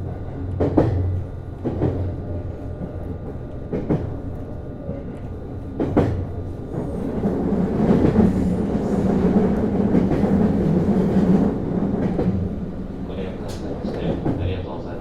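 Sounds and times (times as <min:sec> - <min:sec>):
railcar drive hum: 0:00.0 - 0:15.0.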